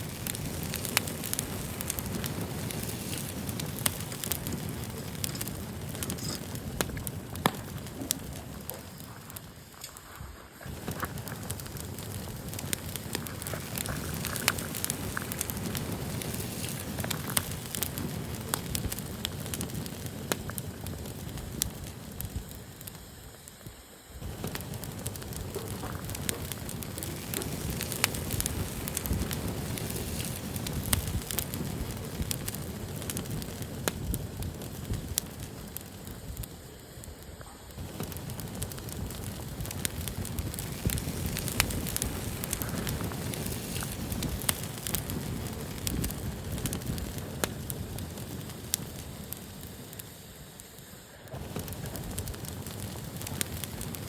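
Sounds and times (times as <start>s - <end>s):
fire crackling and popping: 0.0s - 54.0s
low rumble of flame: 0.0s - 54.0s.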